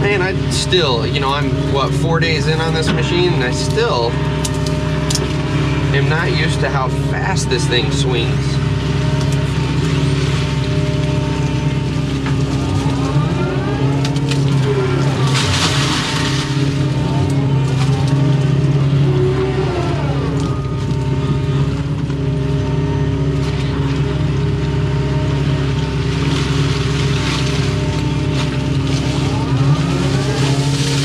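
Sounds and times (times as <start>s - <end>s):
excavator diesel engine running: 0.0s - 31.0s
hydraulic whine: 0.0s - 31.0s.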